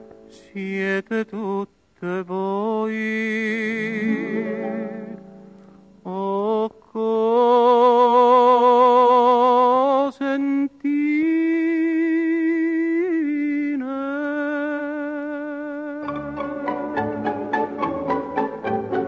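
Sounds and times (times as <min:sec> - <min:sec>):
man singing unaccompanied: 0:00.0 - 0:18.6.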